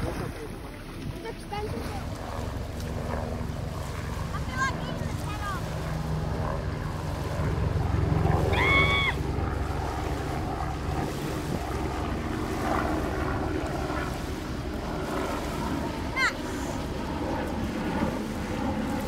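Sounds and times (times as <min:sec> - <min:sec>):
small waves lapping at shore: 0:00.0 - 0:19.0
steady low hum: 0:00.0 - 0:19.0
wind buffeting microphone: 0:00.0 - 0:19.0.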